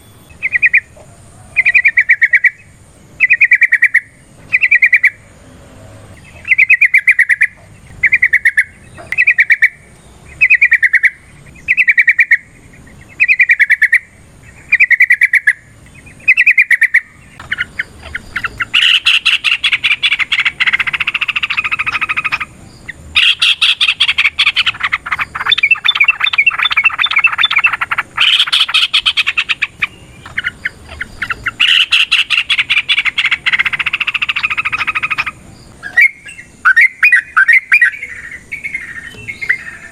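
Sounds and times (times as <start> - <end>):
bird calling: 0.0 - 39.9.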